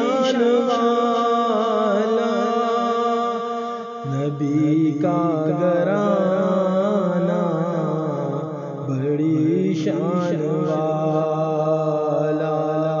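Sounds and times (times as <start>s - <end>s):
man singing long wavering notes: 0.0s - 13.0s.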